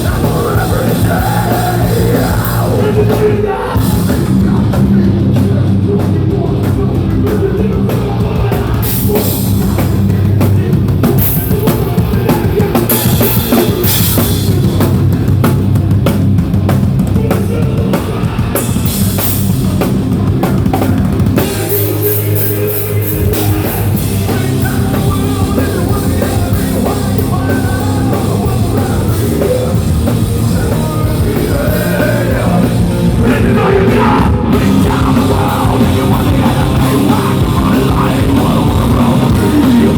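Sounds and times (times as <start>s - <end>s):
live hardcore band playing: 0.0s - 39.9s.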